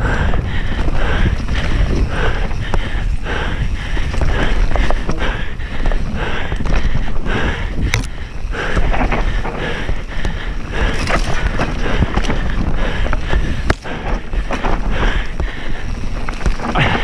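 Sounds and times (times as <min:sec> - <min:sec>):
bike rattling over bumps: 0:00.0 - 0:17.0
bike tyres rolling on dirt: 0:00.0 - 0:17.0
wind buffeting the microphone: 0:00.0 - 0:17.0.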